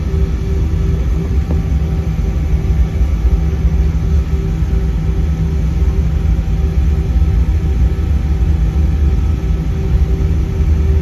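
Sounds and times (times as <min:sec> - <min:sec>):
constant humming tones: 0:00.0 - 0:11.0
jet engine low rumble: 0:00.0 - 0:11.0.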